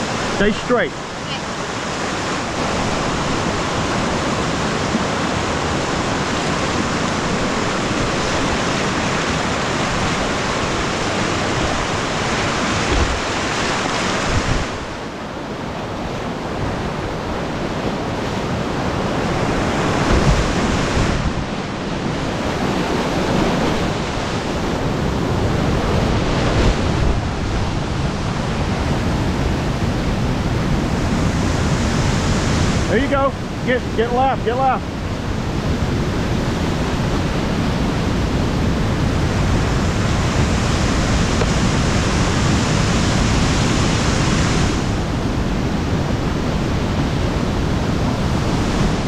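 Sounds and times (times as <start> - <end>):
whitewater rushing: 0.0 - 49.0
wind buffeting microphone: 1.0 - 34.0, 34.9 - 49.0.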